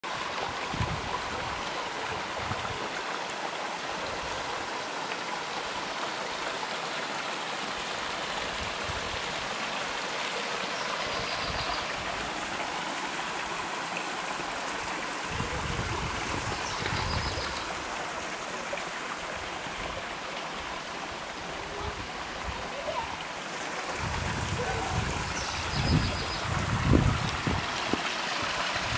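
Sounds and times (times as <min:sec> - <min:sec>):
waterfall rushing and splashing: 0:00.0 - 0:28.9.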